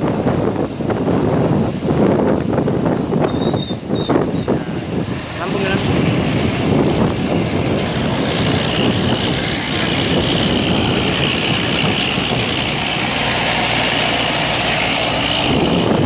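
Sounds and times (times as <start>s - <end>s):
bus engine running: 0.0s - 16.0s
road noise: 0.0s - 16.0s
wind noise: 0.0s - 16.0s.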